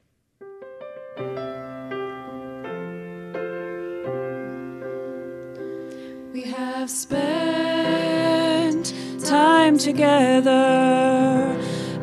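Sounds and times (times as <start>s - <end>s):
piano chords: 0.4s - 12.0s.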